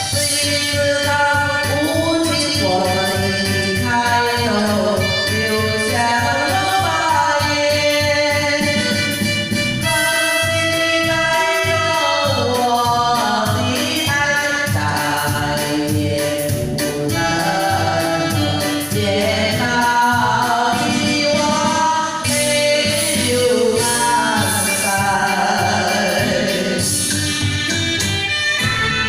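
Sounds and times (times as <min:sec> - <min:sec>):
pop song with sung vocals: 0:00.0 - 0:29.0.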